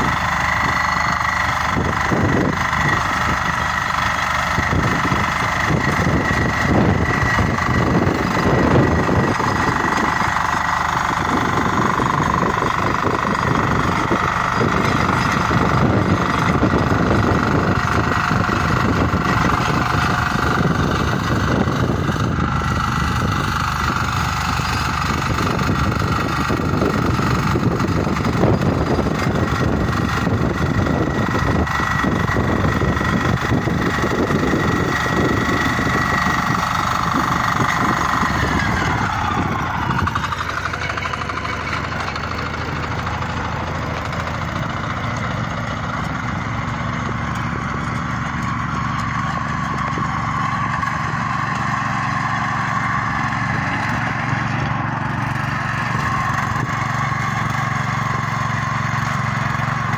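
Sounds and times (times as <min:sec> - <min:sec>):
tiller engine running: 0:00.0 - 0:59.9
tines churning soil: 0:00.0 - 0:59.9.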